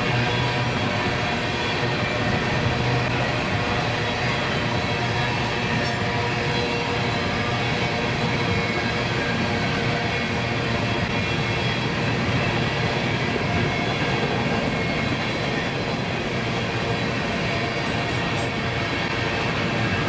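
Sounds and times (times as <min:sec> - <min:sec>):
steel wheels on rails: 0:00.0 - 0:20.0.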